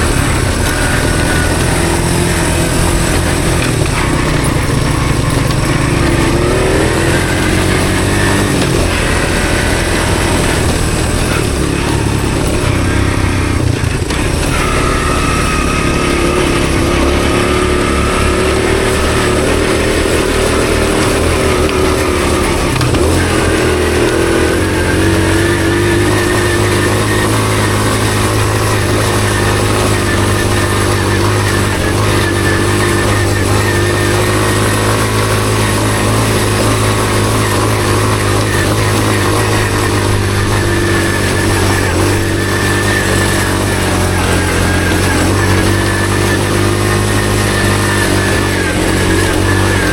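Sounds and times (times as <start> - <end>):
motorbike engine running: 0.0 - 49.9.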